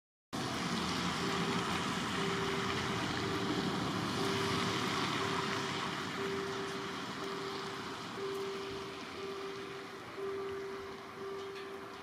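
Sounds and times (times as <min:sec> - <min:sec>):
distant train rushing: 0:00.4 - 0:12.0
pulsing hum: 0:01.1 - 0:12.0.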